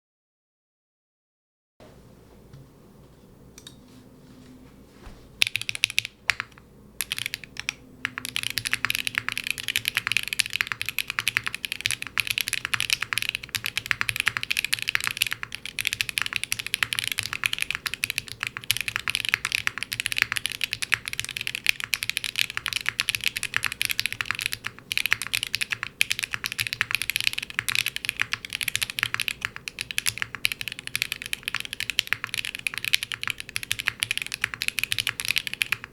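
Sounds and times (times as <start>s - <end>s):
mechanical keyboard typing: 5.4s - 35.9s.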